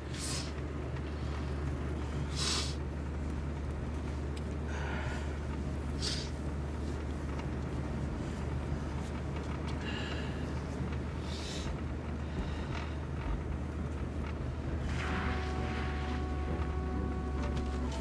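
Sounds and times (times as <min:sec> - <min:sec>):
car engine drone inside cabin: 0:00.0 - 0:18.0.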